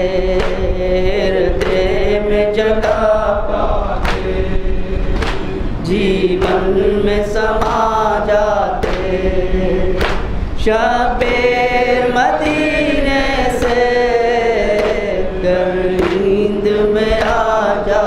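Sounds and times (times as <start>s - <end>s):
male voices chanting a lament: 0.0s - 18.0s.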